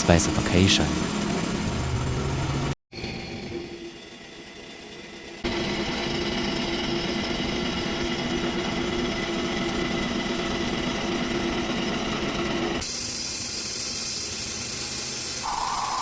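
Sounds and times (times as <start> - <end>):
machine hum: 0.0 - 16.0
machining noise with whine: 0.0 - 16.0.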